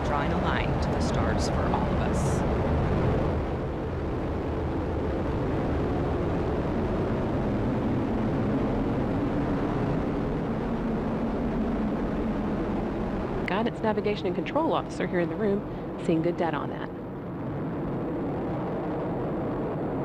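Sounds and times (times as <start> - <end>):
rocket engines rumbling: 0.0 - 20.0.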